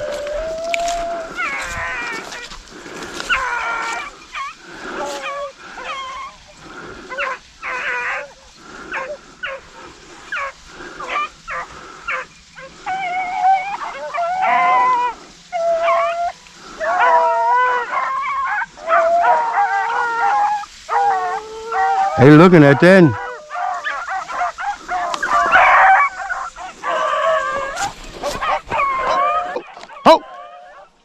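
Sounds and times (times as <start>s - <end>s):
dogs howling: 0.0s - 31.0s
hounds barking: 0.0s - 31.0s.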